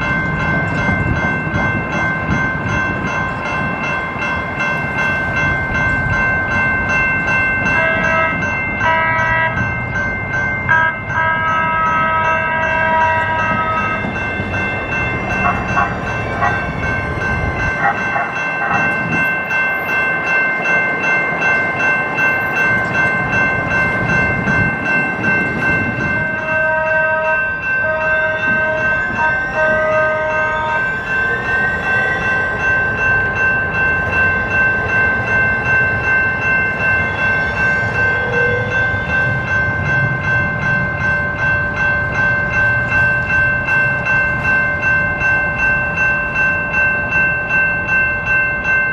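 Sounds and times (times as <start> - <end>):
crossing bells ringing: 0.0 - 48.9
light-rail trolley passing: 0.0 - 48.9.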